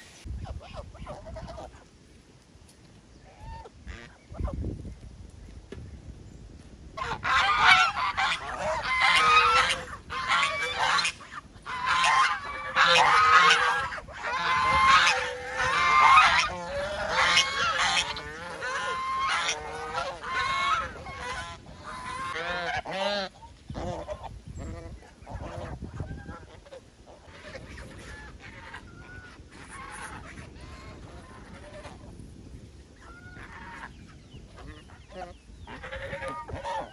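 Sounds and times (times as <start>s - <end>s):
geese honking: 3.3s - 4.5s, 7.0s - 32.1s, 33.0s - 36.9s.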